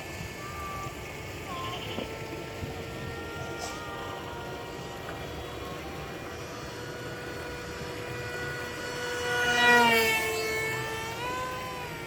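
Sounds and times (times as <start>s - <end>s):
model jet whining in flight: 0.0s - 12.0s.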